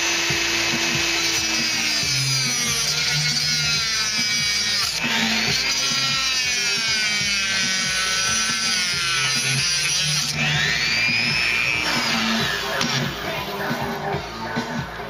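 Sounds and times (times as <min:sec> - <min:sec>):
rotary tool cutting whine: 0:00.0 - 0:14.8
background music: 0:00.0 - 0:15.0.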